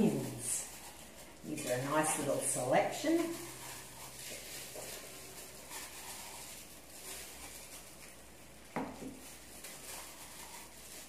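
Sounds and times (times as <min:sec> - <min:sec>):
onion skin rustling: 0:00.0 - 0:11.0.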